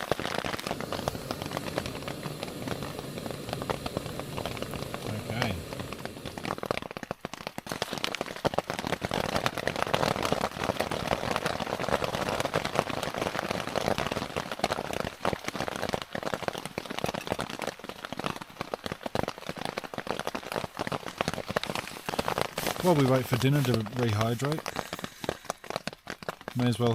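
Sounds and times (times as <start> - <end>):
heavy rain on tent fabric: 0.0 - 26.9.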